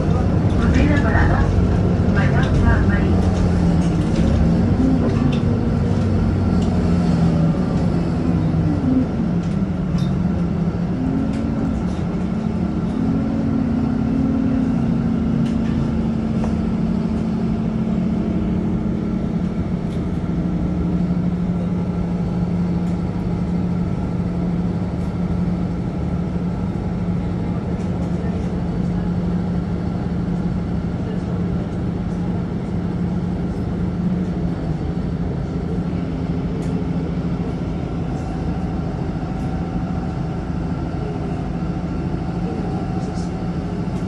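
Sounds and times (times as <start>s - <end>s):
bus engine drone: 0.0s - 44.0s.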